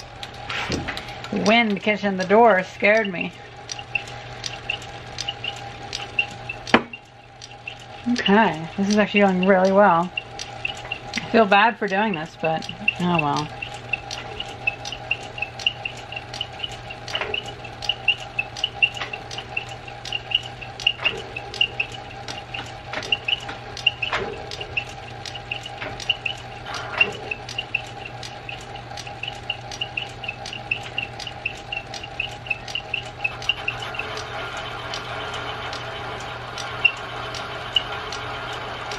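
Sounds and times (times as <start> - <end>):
lathe motor hum: 0.0 - 38.9
regular ticking: 0.0 - 38.9.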